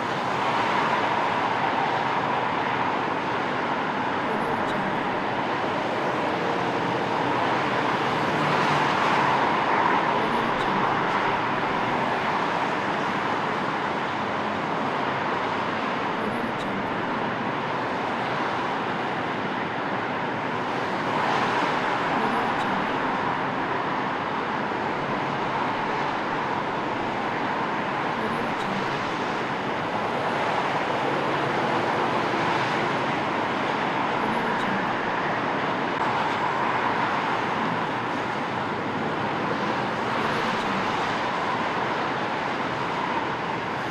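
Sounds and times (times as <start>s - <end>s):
city traffic noise: 0.0s - 43.9s
vehicles passing: 0.0s - 43.9s.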